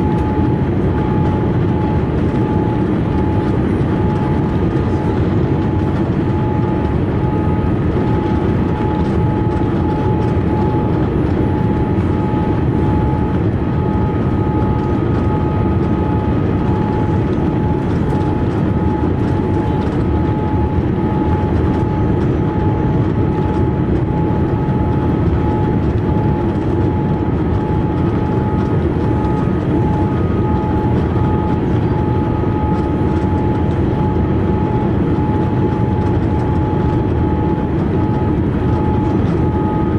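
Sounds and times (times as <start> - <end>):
deep rumble of engines and airflow: 0.0 - 39.9.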